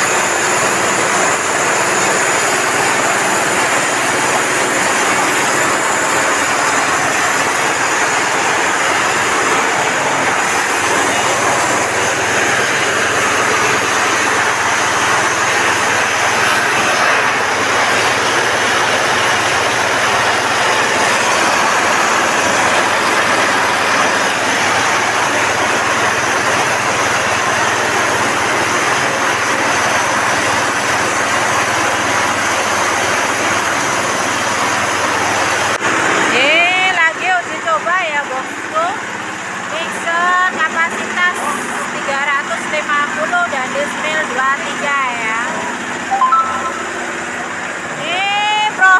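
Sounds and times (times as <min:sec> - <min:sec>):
corn grinding mill running: 0:00.0 - 0:48.5.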